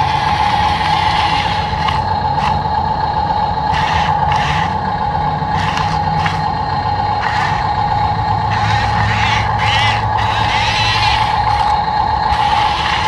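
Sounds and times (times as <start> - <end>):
toy vehicle electric motors whining: 0.0 - 13.0.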